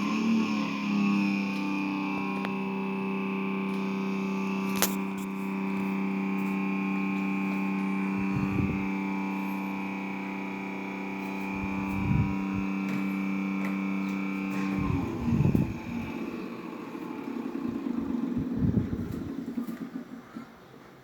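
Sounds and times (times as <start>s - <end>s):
refrigerator whine: 0.0s - 21.0s.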